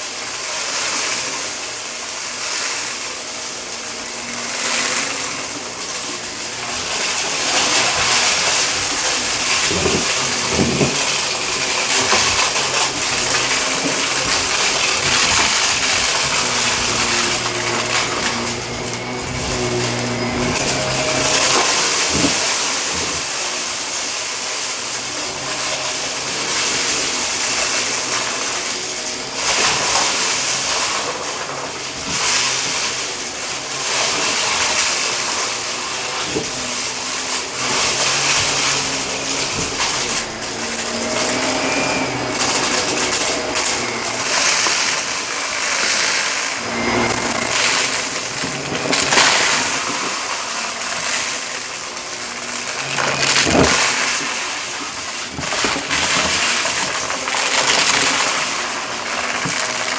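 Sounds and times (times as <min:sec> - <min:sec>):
debris being sucked up: 0:00.0 - 0:59.9
vacuum cleaner on carpet: 0:00.0 - 0:59.9.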